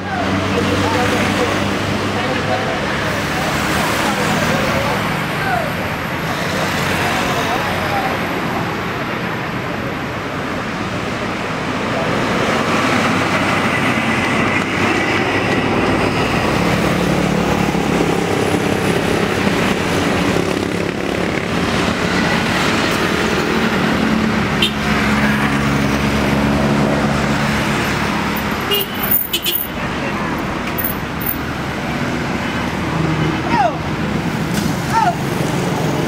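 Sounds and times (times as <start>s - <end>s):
road traffic noise: 0.0s - 36.0s.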